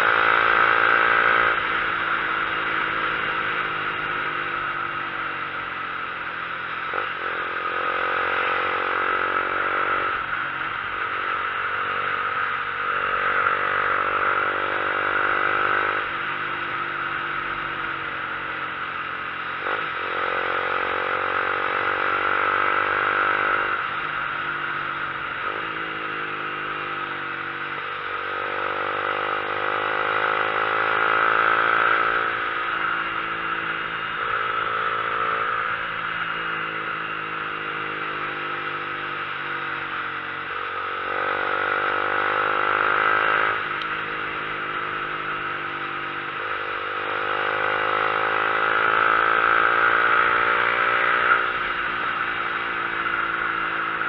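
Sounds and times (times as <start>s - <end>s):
vehicle engine accelerating: 0.0s - 54.0s
wind and road noise: 0.0s - 54.0s.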